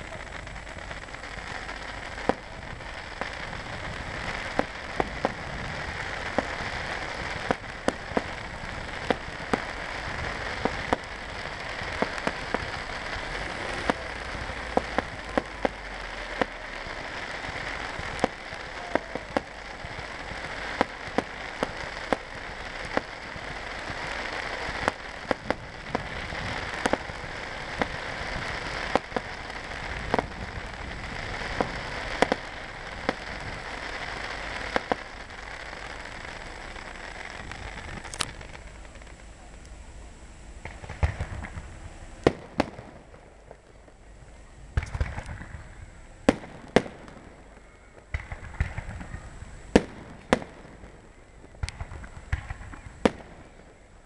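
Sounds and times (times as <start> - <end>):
sharp firework bangs: 0.0 - 39.3, 40.6 - 43.7, 44.7 - 53.8
fireworks crackling: 0.0 - 54.0.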